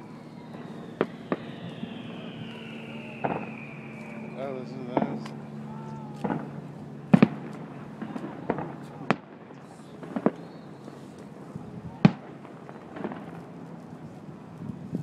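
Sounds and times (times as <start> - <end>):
fireworks bursting with sharp bangs: 0.0 - 14.1.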